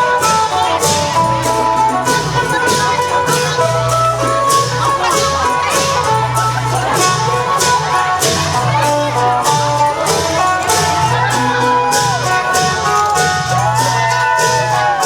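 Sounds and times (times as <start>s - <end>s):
long drums beating: 0.0s - 15.0s
plucked lute melody: 0.0s - 15.0s.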